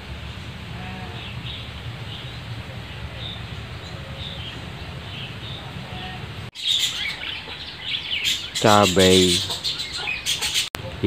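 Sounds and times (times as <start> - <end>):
low outdoor rumble: 0.0 - 9.6
small birds chirping: 1.0 - 11.0.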